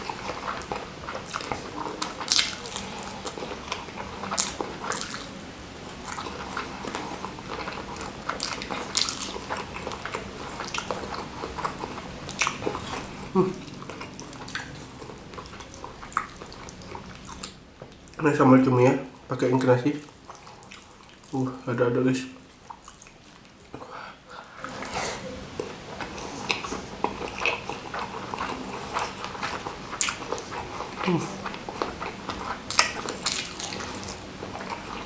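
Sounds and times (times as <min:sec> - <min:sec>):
person chewing: 0:00.0 - 0:18.2, 0:20.0 - 0:21.5, 0:22.4 - 0:23.9, 0:24.5 - 0:35.0.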